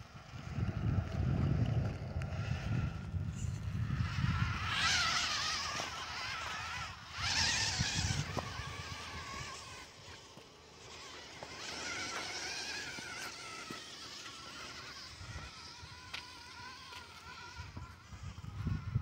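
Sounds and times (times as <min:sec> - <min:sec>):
toy car electric motor whining: 0:00.0 - 0:19.0.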